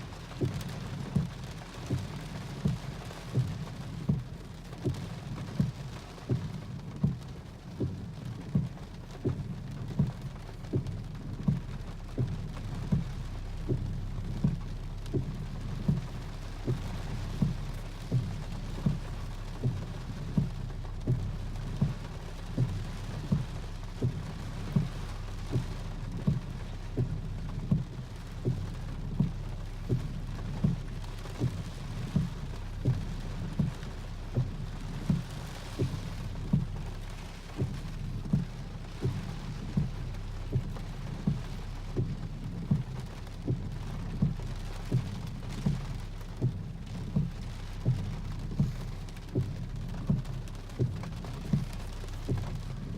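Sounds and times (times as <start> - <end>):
low rumble: 0.0 - 52.9
rain: 0.0 - 52.9.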